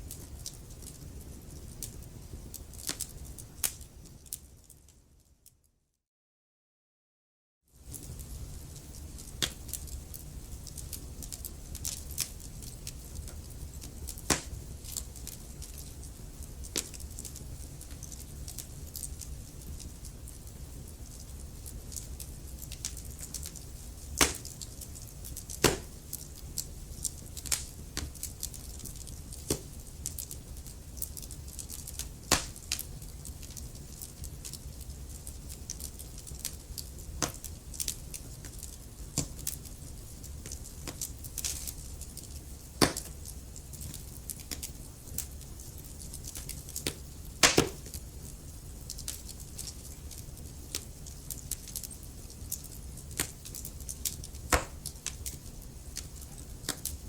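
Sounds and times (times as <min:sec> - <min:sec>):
fireplace fire crackling: 0:00.0 - 0:05.6, 0:07.7 - 0:57.0.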